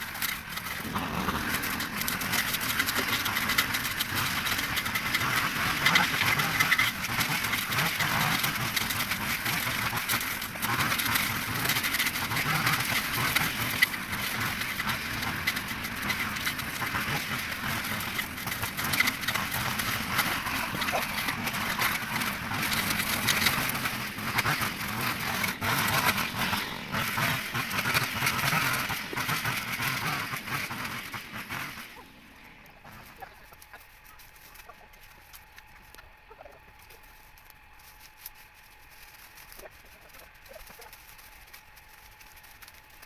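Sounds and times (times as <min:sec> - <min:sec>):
chickens clucking: 0:00.0 - 0:37.1, 0:39.5 - 0:41.1
faint steady hum: 0:00.0 - 0:43.0.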